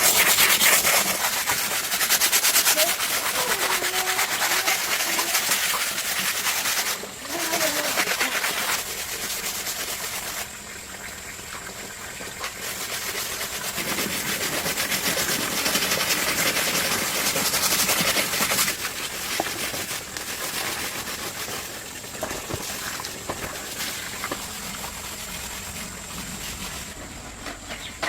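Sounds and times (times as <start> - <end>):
rain falling steadily: 0.0 - 27.0.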